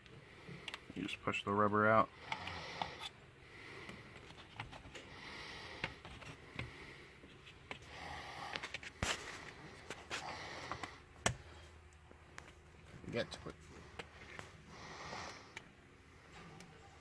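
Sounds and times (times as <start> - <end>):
rubbing and handling noise: 2.5 - 17.0.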